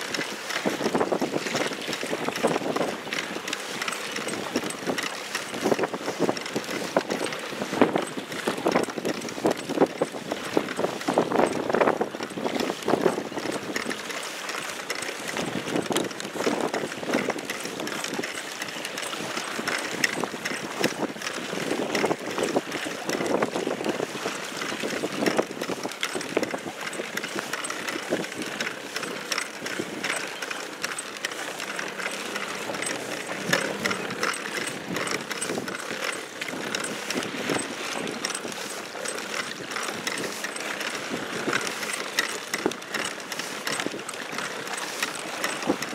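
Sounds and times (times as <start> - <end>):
wind buffeting microphone: 0.0 - 14.1, 15.2 - 45.9
water slapping against boat: 0.0 - 45.9.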